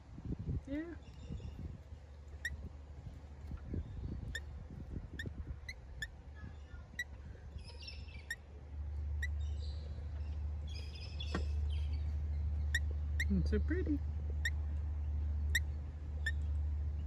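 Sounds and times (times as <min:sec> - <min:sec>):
low steady rumble: 0:00.0 - 0:17.0
birds chirping: 0:00.7 - 0:17.0
birds twittering: 0:01.0 - 0:17.0.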